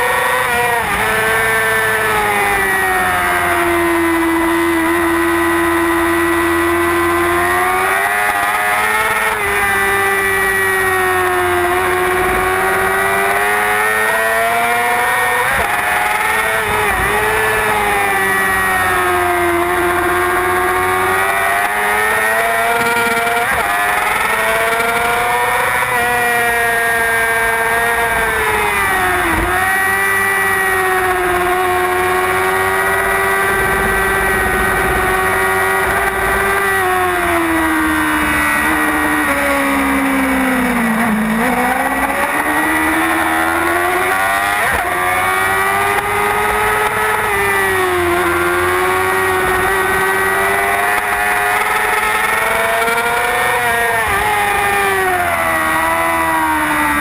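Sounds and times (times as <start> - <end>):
motorcycle engine high revs: 0.0 - 57.0.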